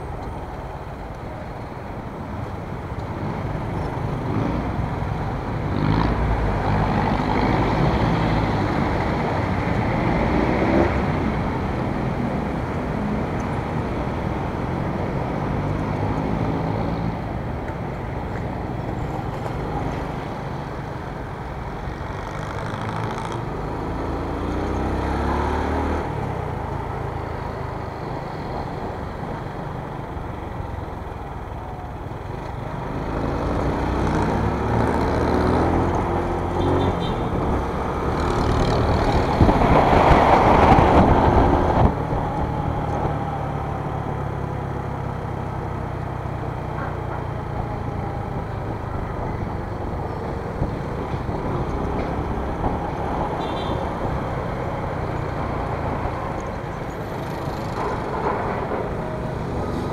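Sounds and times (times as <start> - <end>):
traffic rumble: 0.0 - 59.9.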